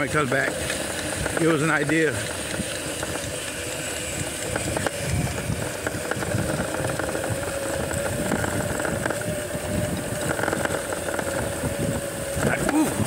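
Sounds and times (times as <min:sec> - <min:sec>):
electric motor whine: 0:00.0 - 0:13.0
low rumble over rough ground: 0:00.0 - 0:13.0.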